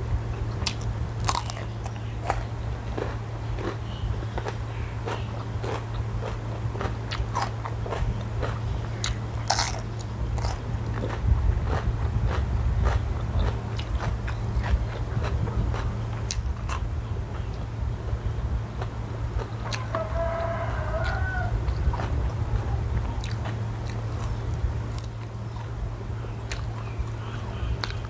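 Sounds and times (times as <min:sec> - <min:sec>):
steady low hum: 0:00.0 - 0:28.0
crunchy bites and chewing: 0:00.4 - 0:17.7, 0:18.7 - 0:28.0.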